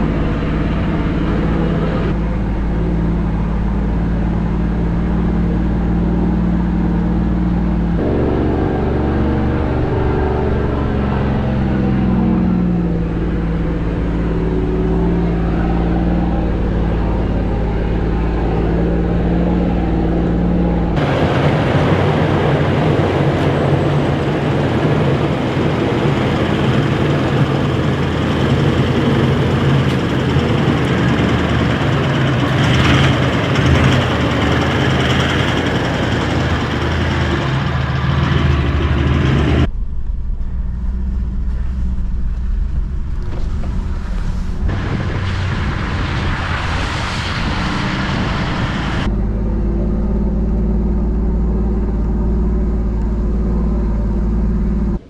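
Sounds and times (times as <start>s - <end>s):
tyres rumbling on dirt track: 0.0s - 55.0s
vehicle engine hum: 0.0s - 55.0s.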